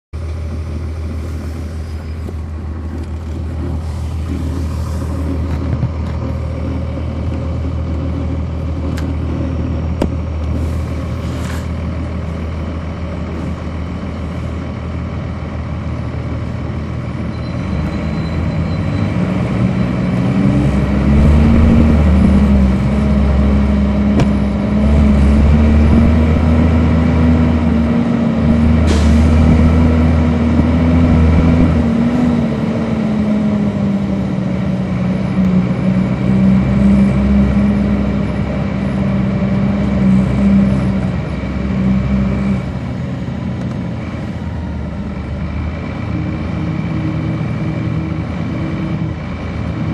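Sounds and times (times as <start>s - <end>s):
diesel bus engine: 0.1s - 49.9s.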